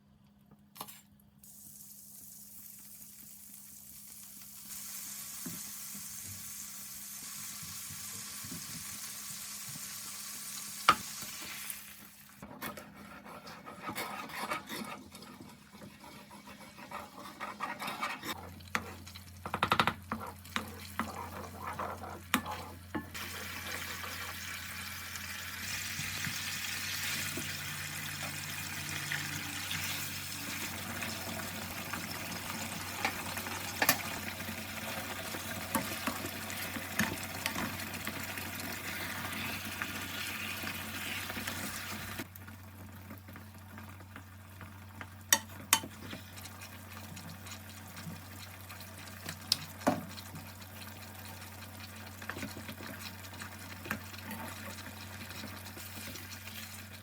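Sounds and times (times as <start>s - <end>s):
food sizzling in a frying pan: 1.4s - 12.4s, 18.3s - 57.0s.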